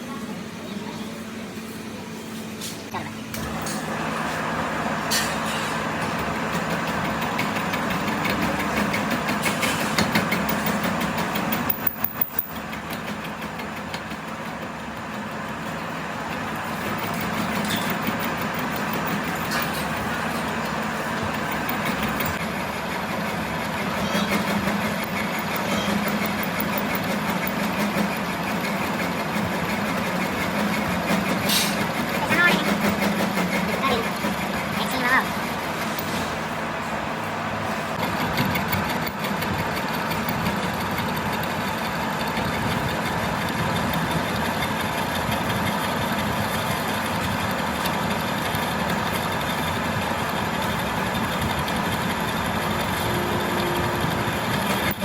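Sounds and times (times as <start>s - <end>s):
machine humming: 2.9s - 55.0s.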